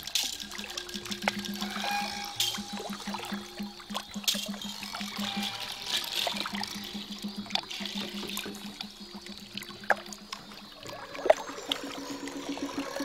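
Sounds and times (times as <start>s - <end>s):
sharp water drips: 0.0s - 13.0s
water trickling: 0.0s - 13.0s.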